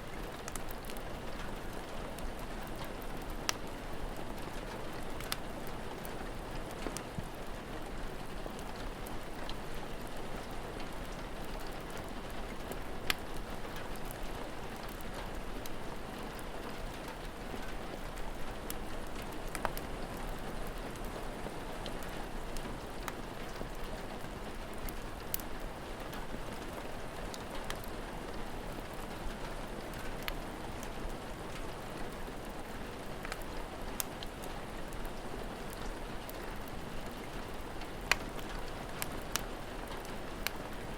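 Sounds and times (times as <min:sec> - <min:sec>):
steady rain falling: 0:00.0 - 0:40.9
wood fire crackling: 0:00.1 - 0:40.9.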